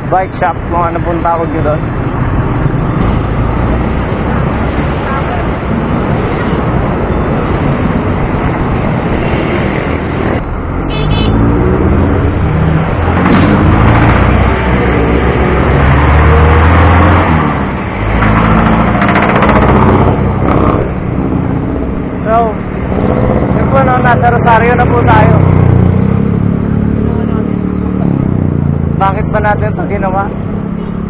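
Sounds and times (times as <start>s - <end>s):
steady rushing noise: 0.0s - 25.3s.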